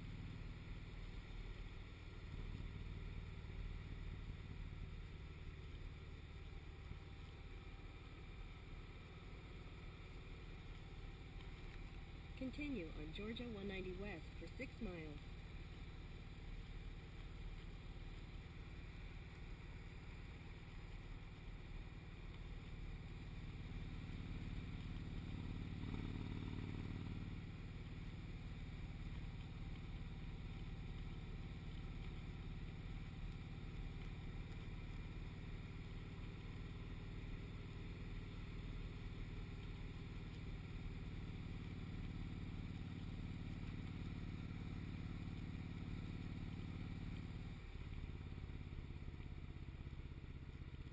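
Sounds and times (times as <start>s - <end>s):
motorcycle engine droning: 0.0s - 50.9s.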